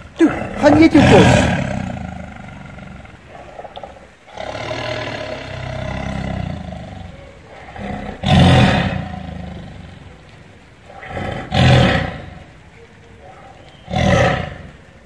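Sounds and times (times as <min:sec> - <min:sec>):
tiger grunt: 0:00.0 - 0:12.6, 0:13.2 - 0:14.9
tiger growling: 0:00.0 - 0:15.0
tiger roaring: 0:00.0 - 0:15.0.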